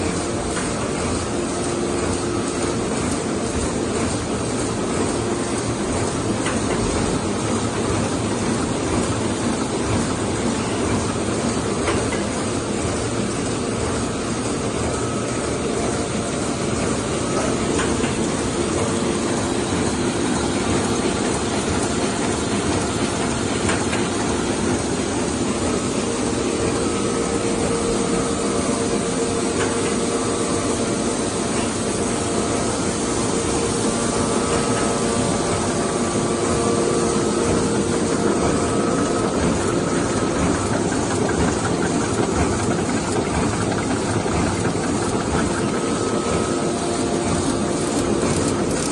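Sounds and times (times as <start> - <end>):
printing press running: 0.0 - 48.9.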